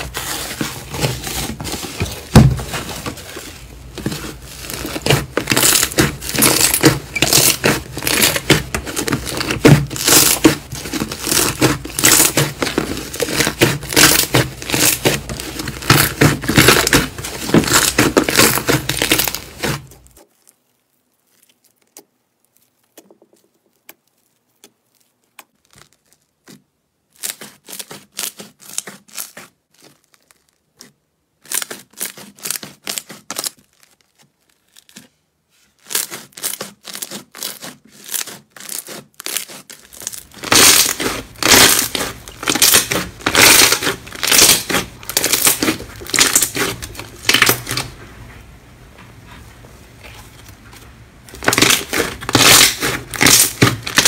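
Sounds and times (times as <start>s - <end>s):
slime crackling and popping: 0.0s - 35.1s, 35.8s - 48.0s, 50.0s - 54.0s
crunchy slime crackling: 0.0s - 48.0s, 49.9s - 54.0s.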